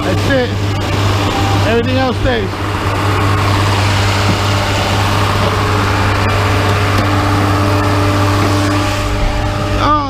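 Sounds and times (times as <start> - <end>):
loud engine running steadily: 0.0 - 10.0.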